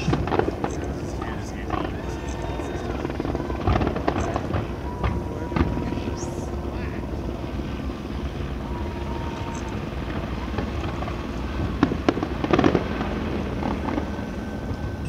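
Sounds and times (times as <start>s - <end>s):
crackling firework bursts: 0.0s - 15.0s
fireworks bangs: 0.0s - 15.0s
low background rumble: 0.0s - 15.0s.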